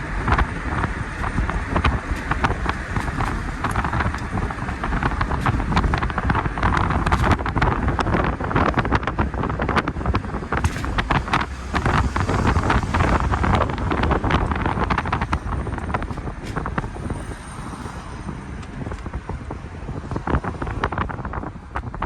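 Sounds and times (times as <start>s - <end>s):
low rumble: 0.0s - 22.0s
wind buffeting microphone: 0.0s - 22.0s.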